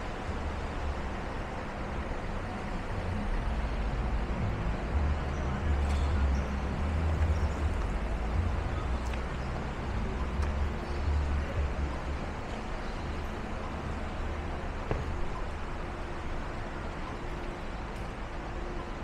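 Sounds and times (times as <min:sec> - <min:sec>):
steady rain hiss: 0:00.0 - 0:19.0
vehicle engine rumble: 0:00.0 - 0:19.0.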